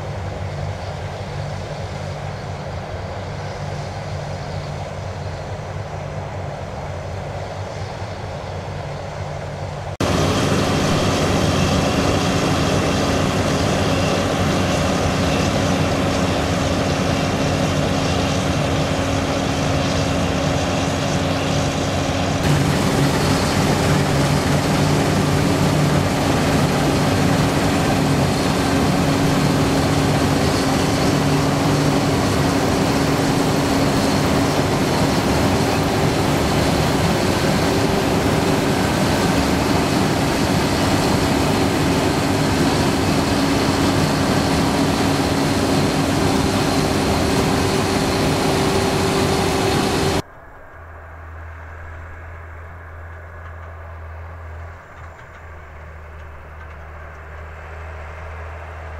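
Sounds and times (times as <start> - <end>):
combine harvester running: 0.0 - 58.9
hiss of crop and chaff: 0.1 - 50.2.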